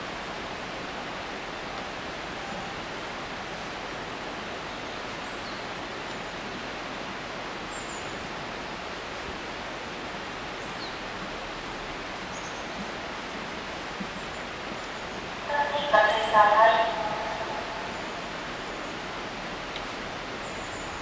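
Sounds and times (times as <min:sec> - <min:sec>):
open-air rushing noise: 0:00.0 - 0:21.0.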